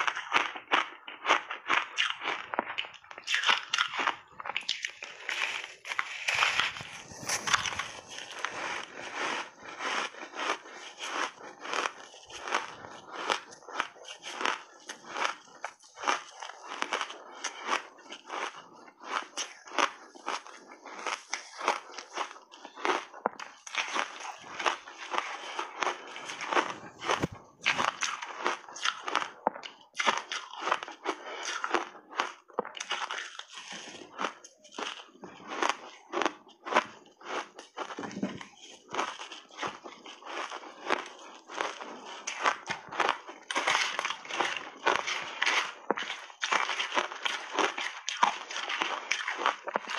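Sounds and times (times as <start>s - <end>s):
teeth crunching ice: 0.0s - 49.9s.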